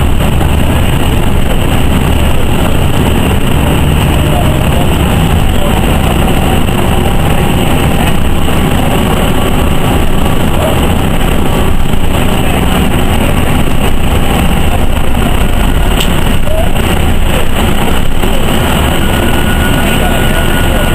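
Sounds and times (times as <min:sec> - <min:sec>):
bus engine and road noise: 0:00.0 - 0:20.9.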